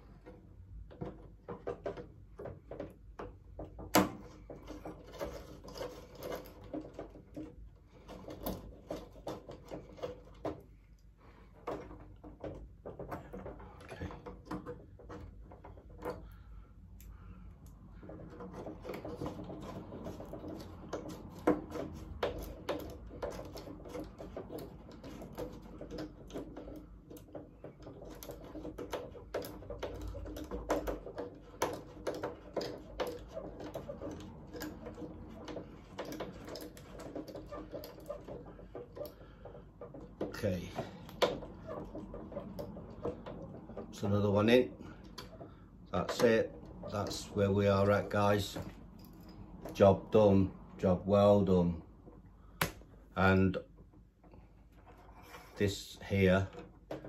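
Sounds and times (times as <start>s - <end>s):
hands clicking and tapping parts: 0.0s - 57.0s.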